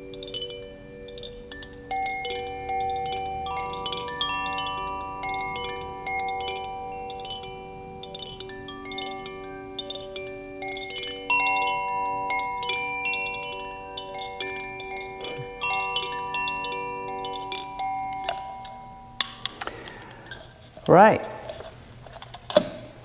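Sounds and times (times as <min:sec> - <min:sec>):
bamboo wind chime ringing: 0:00.0 - 0:21.7.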